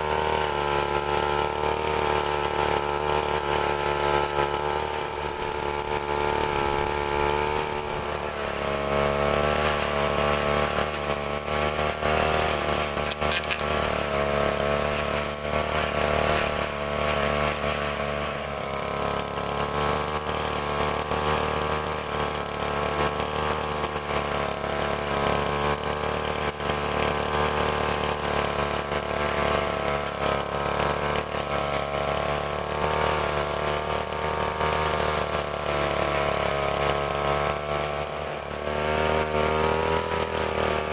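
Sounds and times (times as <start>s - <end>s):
brush cutter two-stroke engine: 0.0s - 40.9s.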